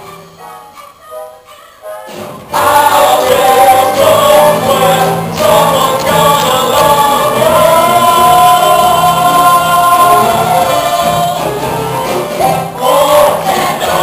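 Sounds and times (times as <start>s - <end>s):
musical accompaniment: 0.0s - 14.0s
cast singing in chorus: 2.5s - 14.0s.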